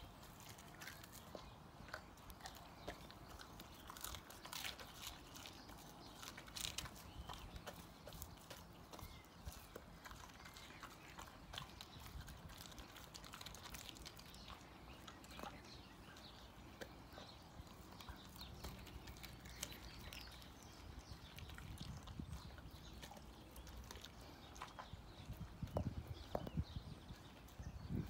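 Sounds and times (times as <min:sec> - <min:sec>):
dog chewing fish: 0:00.0 - 0:28.0.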